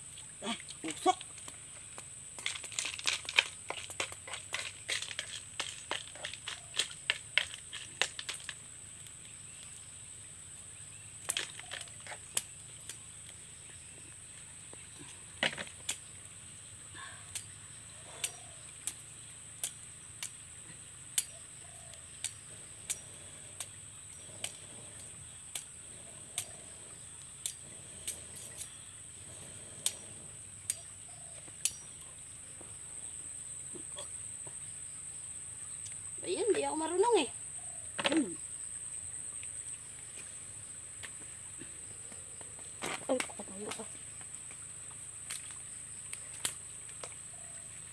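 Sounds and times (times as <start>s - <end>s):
wood fire crackling: 0.0s - 34.9s, 39.4s - 47.3s.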